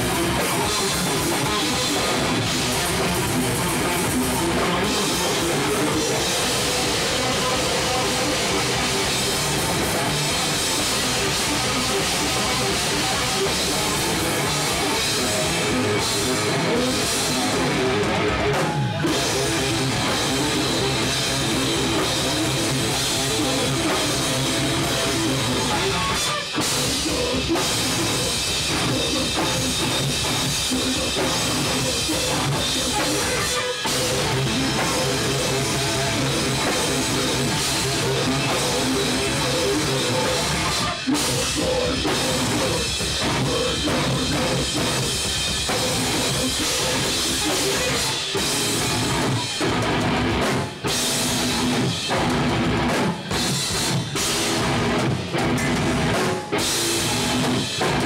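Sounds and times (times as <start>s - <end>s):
distorted guitars: 0.0s - 58.0s
loud drum kit: 0.0s - 58.0s.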